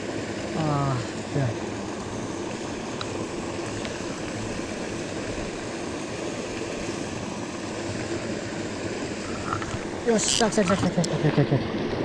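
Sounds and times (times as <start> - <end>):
water rushing and splashing into pool: 0.0 - 12.0.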